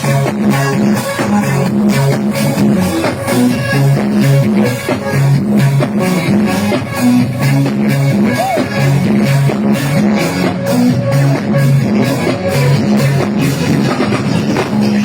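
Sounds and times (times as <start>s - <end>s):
bass line: 0.0s - 15.0s
drums: 0.0s - 15.0s
guitar: 0.0s - 15.0s.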